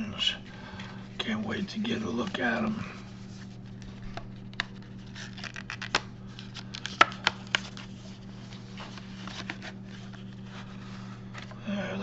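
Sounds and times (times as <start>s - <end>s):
cardboard scraping and rustling: 1.2s - 11.6s.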